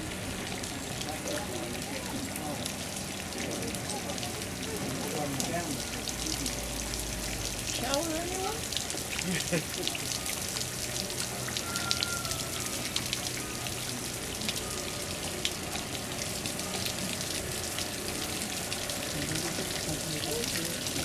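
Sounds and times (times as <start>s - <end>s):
water dripping: 0.0s - 21.0s.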